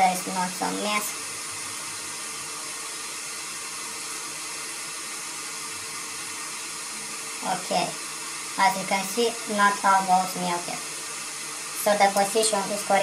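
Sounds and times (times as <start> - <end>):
faint constant hum: 0.0 - 13.0
hot air blower hissing: 0.0 - 13.0.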